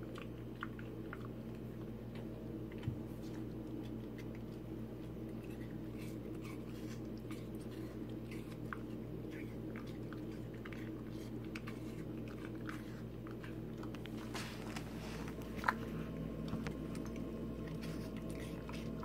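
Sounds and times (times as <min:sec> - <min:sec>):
dog chewing food crunching: 0:00.0 - 0:19.0
steady low hum: 0:00.0 - 0:19.0.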